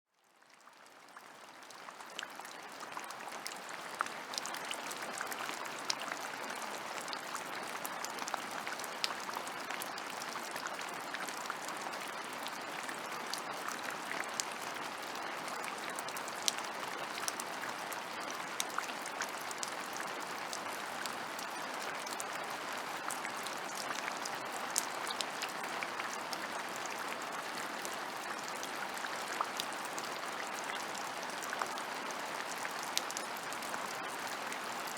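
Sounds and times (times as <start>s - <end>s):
raindrops ticking on surfaces: 0.3s - 34.9s.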